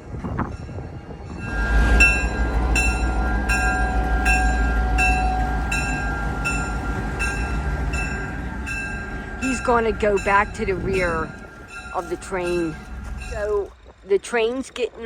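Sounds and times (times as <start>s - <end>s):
locomotive engine rumbling: 0.0s - 15.0s
locomotive bell ringing: 0.5s - 14.4s.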